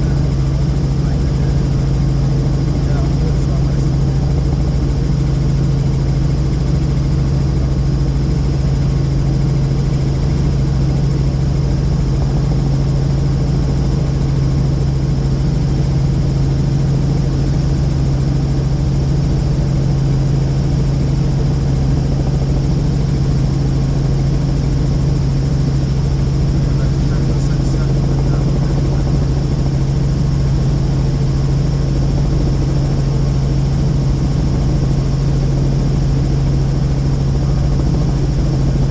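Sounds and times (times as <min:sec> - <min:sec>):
helicopter cabin drone: 0:00.0 - 0:38.9.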